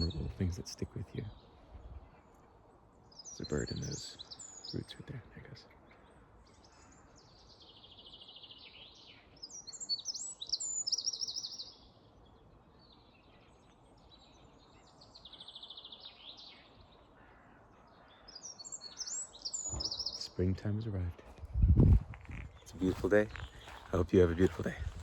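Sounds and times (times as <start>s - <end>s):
songbirds singing trills: 0.0s - 25.0s.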